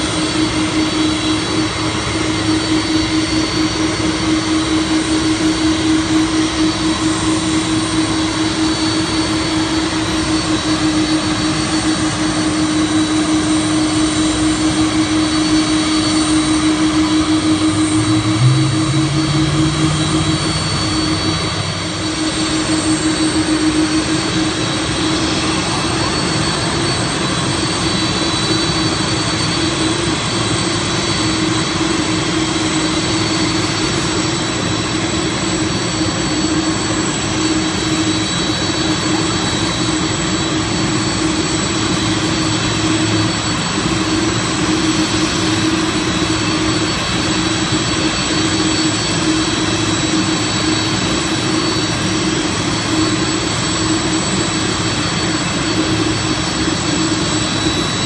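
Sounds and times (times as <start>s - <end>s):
jet engine whine and rumble: 0.0s - 58.0s.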